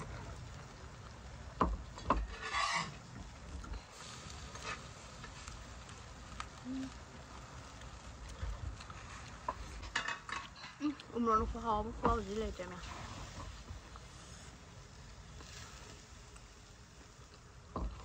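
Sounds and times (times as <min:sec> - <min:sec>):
scraping rustle: 0:01.8 - 0:06.7, 0:07.5 - 0:18.0.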